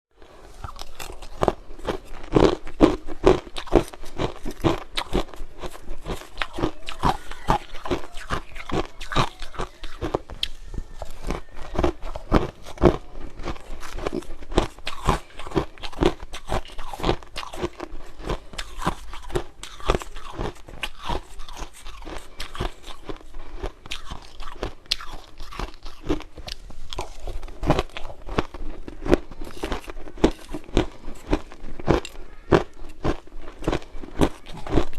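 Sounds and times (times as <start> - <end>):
person chewing crunchy food: 0.2 - 34.9.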